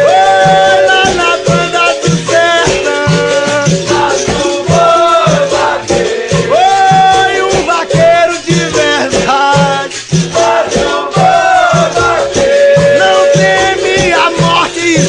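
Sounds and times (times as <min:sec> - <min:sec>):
low drum beat: 0:00.0 - 0:15.0
shaken rattle: 0:00.0 - 0:15.0
sliding melody: 0:00.0 - 0:15.0.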